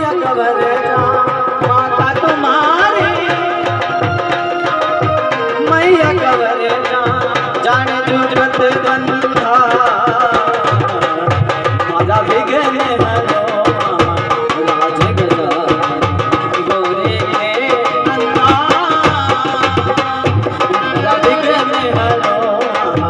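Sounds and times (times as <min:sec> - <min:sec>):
hand drum rhythm: 0:00.0 - 0:23.0.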